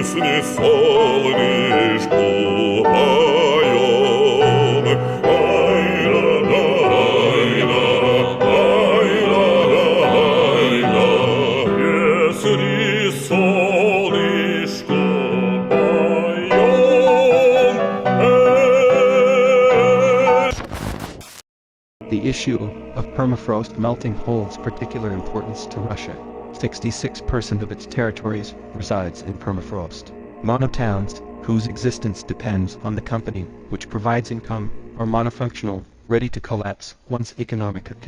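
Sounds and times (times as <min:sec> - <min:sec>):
operatic singing with vibrato: 0:00.0 - 0:20.5, 0:22.0 - 0:35.8.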